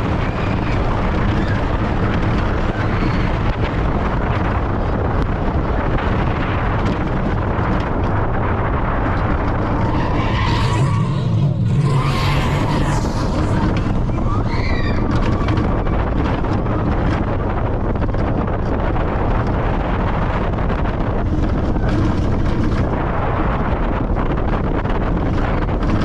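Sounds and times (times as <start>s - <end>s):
roller coaster train rumbling: 0.0s - 26.0s
wind buffeting microphone: 0.0s - 26.0s.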